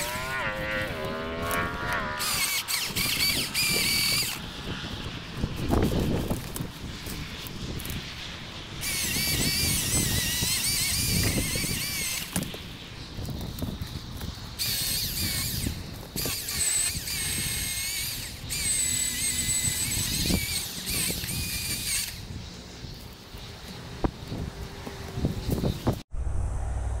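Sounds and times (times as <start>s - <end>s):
electric chainsaw cutting wood: 0.0s - 26.0s.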